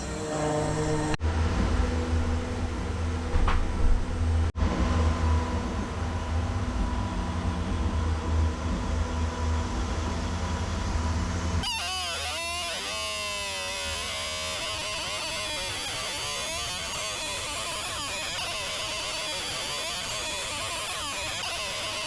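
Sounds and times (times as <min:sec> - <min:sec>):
machine low hum: 0:00.0 - 0:22.0
thin steady whine: 0:00.0 - 0:22.0.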